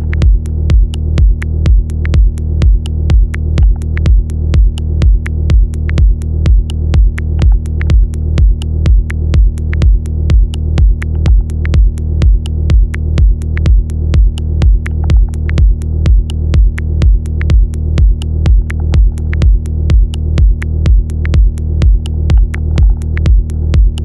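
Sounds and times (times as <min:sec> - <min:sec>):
deep bass line: 0:00.0 - 0:24.0
hi-hat ticks: 0:00.0 - 0:24.0
techno kick drum: 0:00.0 - 0:24.0.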